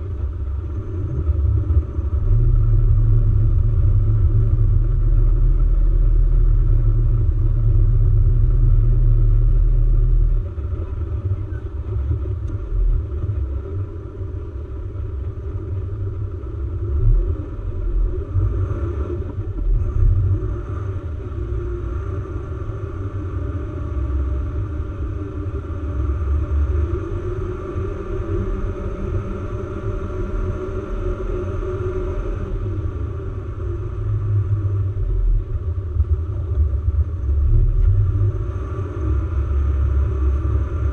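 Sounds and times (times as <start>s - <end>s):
off-road vehicle engine rumble: 0.0s - 40.9s.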